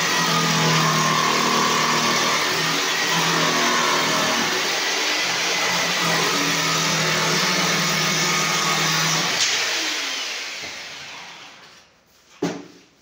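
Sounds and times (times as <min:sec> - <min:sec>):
electric jigsaw cutting wood: 0:00.0 - 0:11.8.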